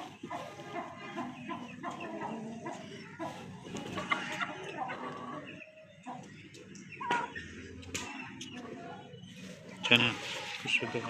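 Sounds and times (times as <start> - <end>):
chicken clucking: 0.0 - 11.0.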